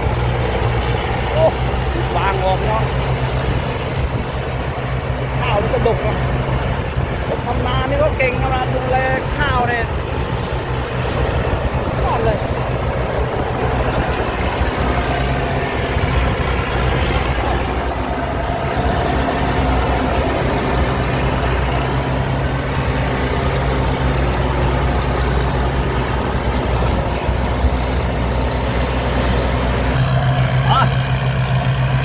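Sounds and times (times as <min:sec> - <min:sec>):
combine harvester engine drone: 0:00.0 - 0:32.0
high whine: 0:00.0 - 0:32.0.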